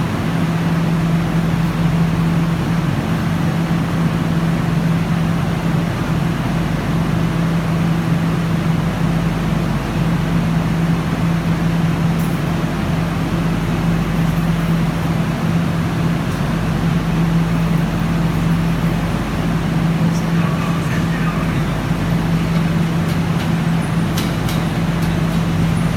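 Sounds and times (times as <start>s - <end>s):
metro train running: 0.0s - 25.9s.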